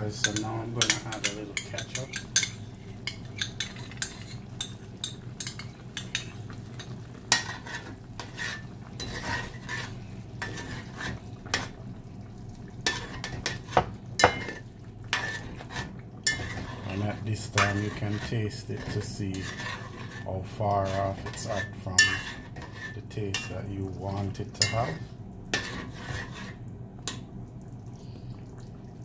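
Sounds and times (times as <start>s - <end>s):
steady low hum: 0.0s - 29.0s
stew simmering: 0.0s - 29.0s
metal utensil scraping a pot: 0.2s - 11.8s, 12.8s - 23.6s, 25.5s - 26.6s.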